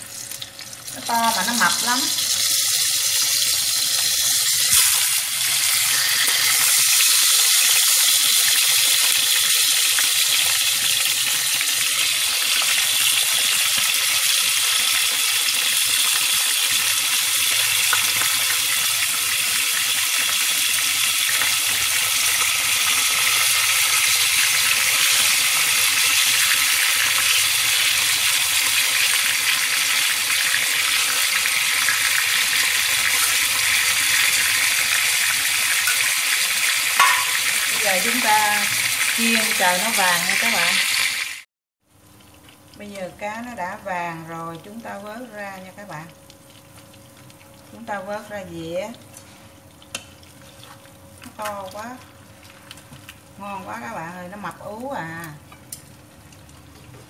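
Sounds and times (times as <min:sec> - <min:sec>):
oil crackle: 0:00.0 - 0:39.2, 0:40.1 - 0:43.2, 0:45.9 - 0:57.0
fish sizzling in hot oil: 0:00.0 - 0:57.0.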